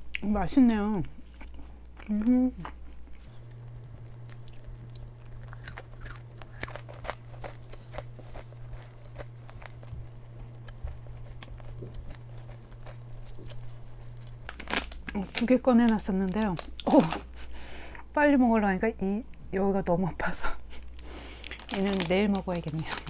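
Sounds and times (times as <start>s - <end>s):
low steady hum: 0.0s - 23.0s
crispy cookie crunching: 0.2s - 17.6s, 21.0s - 23.0s.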